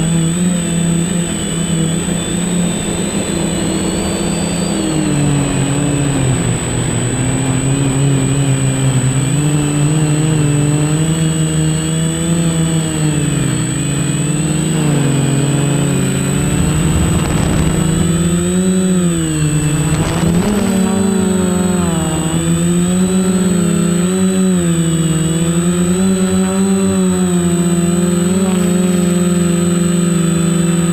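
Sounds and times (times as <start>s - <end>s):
quadcopter motors whining: 0.0s - 30.9s.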